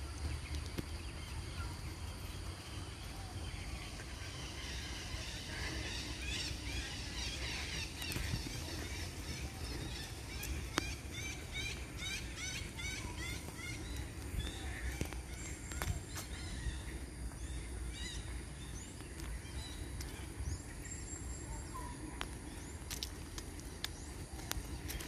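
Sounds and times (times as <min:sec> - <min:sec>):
birds chirping and chattering: 0:00.0 - 0:25.0.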